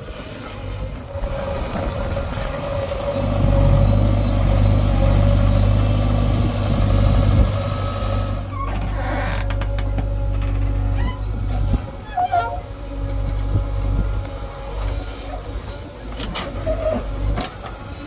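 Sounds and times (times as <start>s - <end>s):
heavy diesel engine running: 0.0s - 18.0s
steady machine whine: 0.0s - 18.0s.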